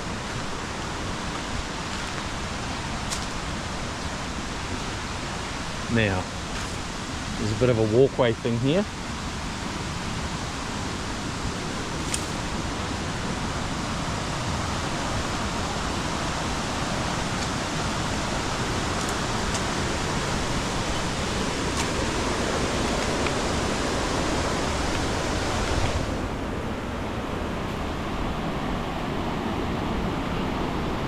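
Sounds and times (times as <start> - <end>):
river water rushing over rocks: 0.0 - 31.0.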